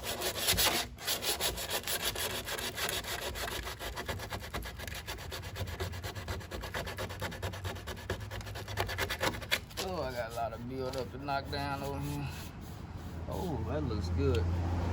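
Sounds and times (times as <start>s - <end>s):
sanding car panel: 0.0s - 14.9s.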